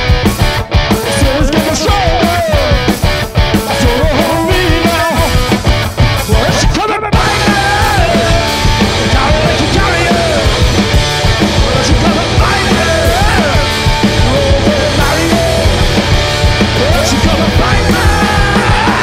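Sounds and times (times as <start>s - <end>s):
loud live rock band music: 0.0s - 19.0s.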